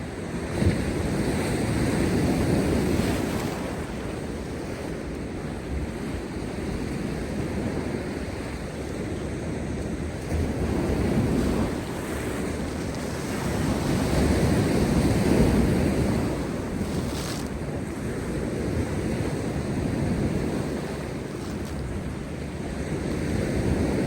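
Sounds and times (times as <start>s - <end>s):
surf crashing on rocky shore: 0.0s - 24.0s.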